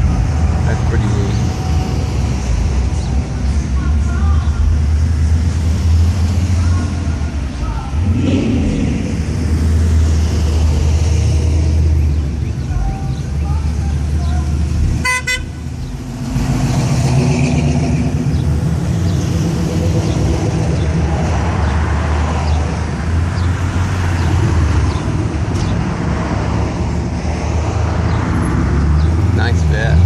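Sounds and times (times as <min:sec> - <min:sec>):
car engines rumbling: 0:00.0 - 0:30.0
road noise: 0:00.0 - 0:30.0.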